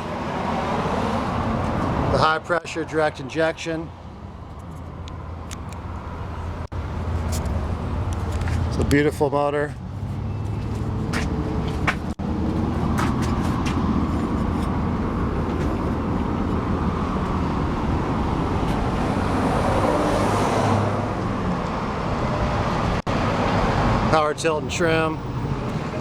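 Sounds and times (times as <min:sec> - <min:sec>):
road traffic rumble: 0:00.0 - 0:26.0
vehicle passing: 0:00.0 - 0:26.0.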